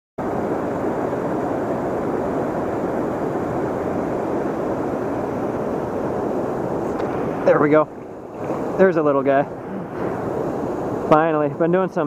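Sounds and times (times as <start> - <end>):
rushing river water: 0.2 - 12.0.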